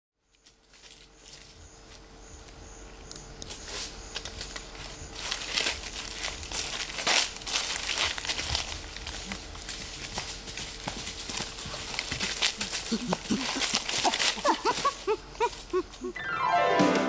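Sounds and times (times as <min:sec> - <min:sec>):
faint steady hum: 0:00.2 - 0:16.3
dry leaves crackling and rustling: 0:00.3 - 0:02.6, 0:03.3 - 0:16.2.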